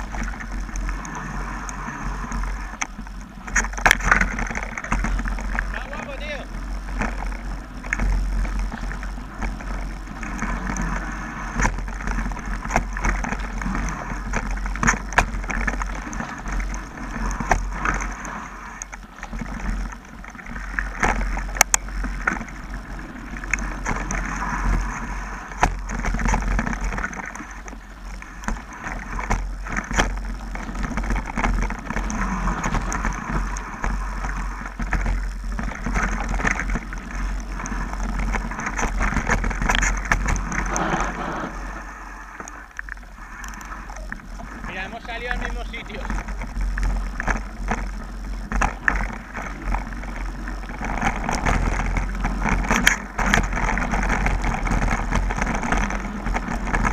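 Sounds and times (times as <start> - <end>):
bike clicks and rattles: 0.0 - 41.5, 42.4 - 56.9
tyres on dirt: 0.0 - 56.9
wind rumble on microphone: 0.0 - 56.9.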